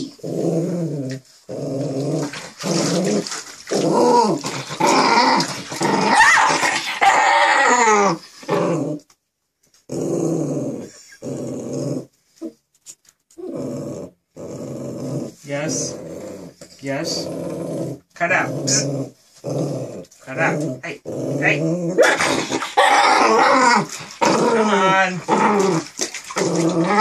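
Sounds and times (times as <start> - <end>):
small dog growling and whining: 0.0 - 9.0, 9.9 - 12.6, 13.4 - 16.6, 17.2 - 27.0.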